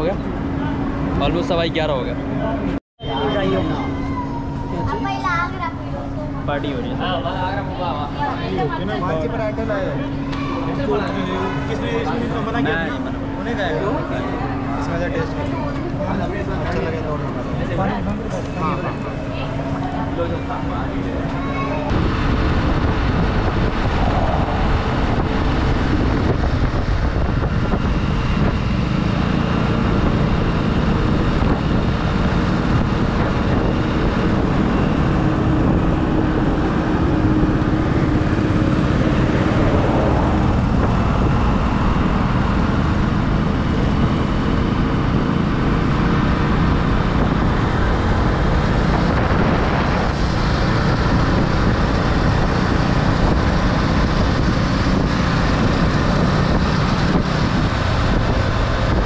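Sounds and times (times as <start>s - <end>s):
motorcycle engine drone: 0.0s - 59.0s
wind and road noise: 0.0s - 59.0s.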